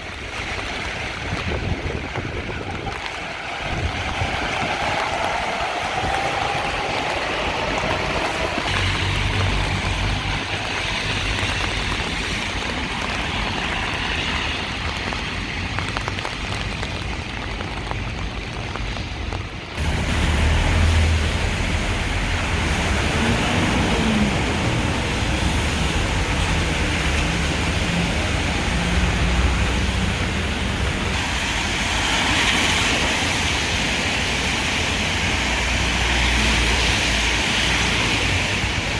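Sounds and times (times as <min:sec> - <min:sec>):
heavy rain on street: 0:00.0 - 0:38.9
traffic rumble: 0:00.0 - 0:38.9.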